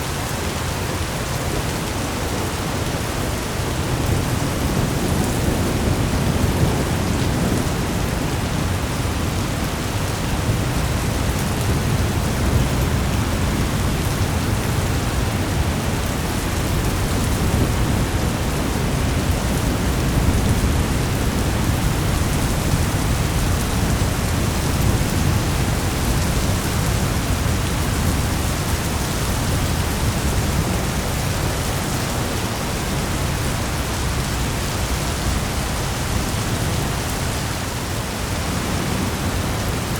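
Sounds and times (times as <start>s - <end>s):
dense rain: 0.0s - 39.9s
low rumble of thunder: 2.4s - 37.6s.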